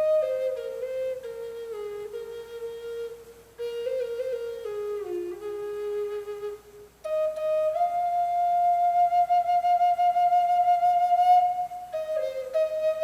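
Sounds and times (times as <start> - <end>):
solo flute melody: 0.0 - 13.0.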